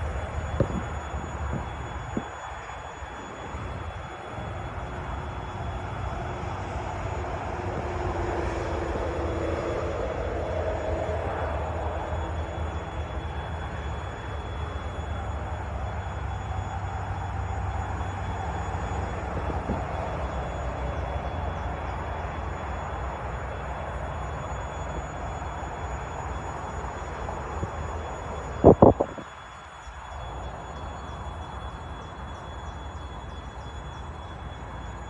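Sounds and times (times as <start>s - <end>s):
train rumbling: 0.0s - 35.0s.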